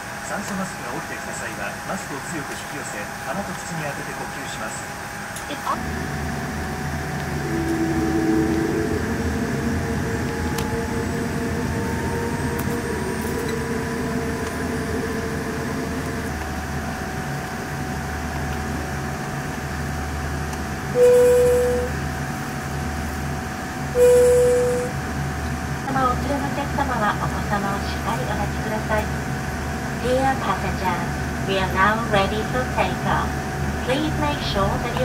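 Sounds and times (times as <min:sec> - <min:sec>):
airliner cabin hum: 0:00.0 - 0:35.0
faint steady whine: 0:00.0 - 0:35.0.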